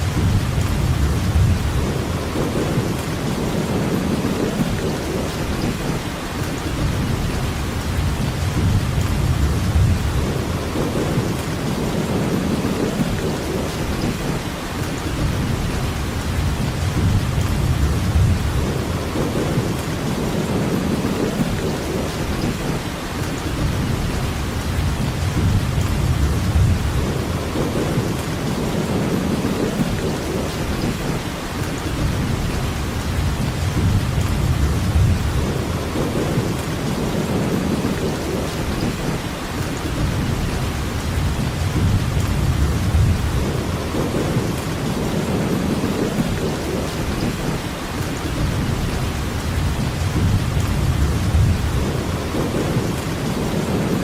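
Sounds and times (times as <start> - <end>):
distant thunder rumbles: 0.0 - 54.0
heavy rain hissing: 0.0 - 54.0.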